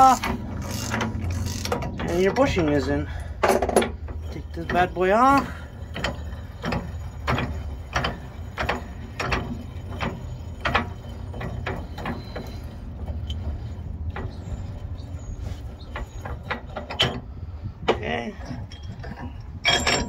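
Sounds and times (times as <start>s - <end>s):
metal clicks and knocks: 0.0s - 20.0s
steady low rumble: 0.0s - 20.0s.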